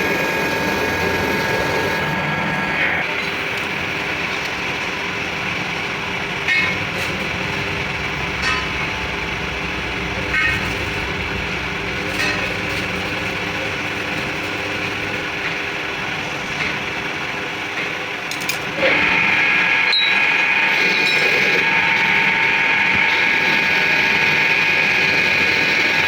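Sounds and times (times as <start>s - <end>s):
machine high-pitched whine: 0.0s - 26.0s
workshop machine noise: 0.0s - 26.0s.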